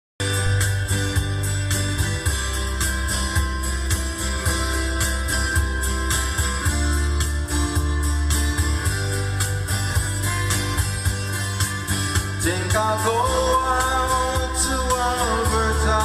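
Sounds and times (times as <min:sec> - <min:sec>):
bass line: 0:00.2 - 0:16.0
guitars strummed and picked: 0:00.2 - 0:16.0
steady beat: 0:00.2 - 0:16.0.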